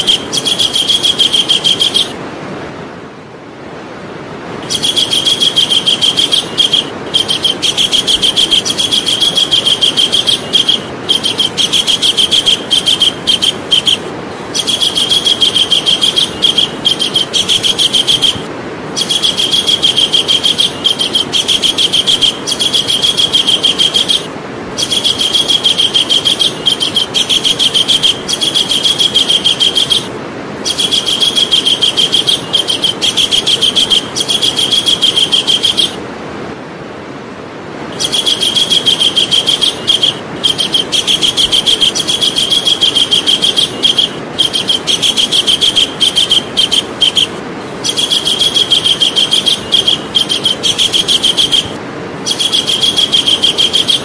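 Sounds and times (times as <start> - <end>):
kingfisher calling: 0.0 - 2.2, 4.6 - 36.0, 37.9 - 54.0
steady hiss: 0.0 - 3.0, 3.6 - 54.0.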